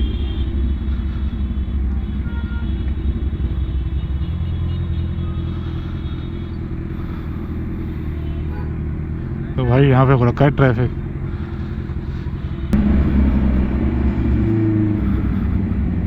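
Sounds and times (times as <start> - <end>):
motorcycle engine low drone: 0.0 - 16.0.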